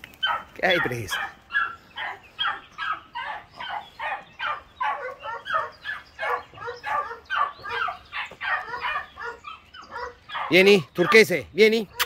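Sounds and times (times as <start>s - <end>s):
dog barking: 0.2s - 11.3s.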